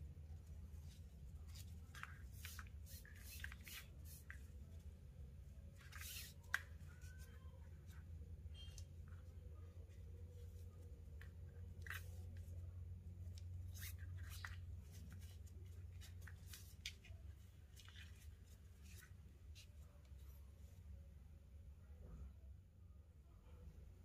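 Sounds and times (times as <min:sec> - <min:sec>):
cord rustling through fingers: 0:00.0 - 0:20.9
steady low hum: 0:00.0 - 0:24.0.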